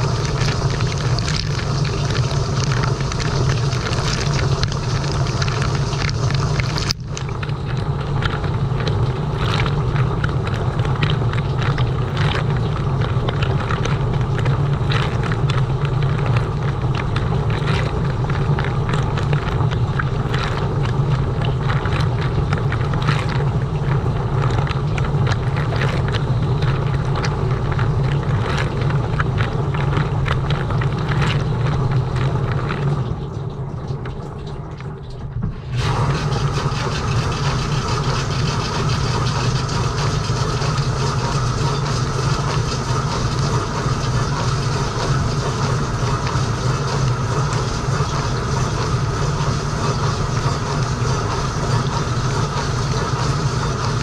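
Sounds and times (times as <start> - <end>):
dishwasher pump hum: 0.0 - 54.0
water spraying and splashing: 0.0 - 54.0.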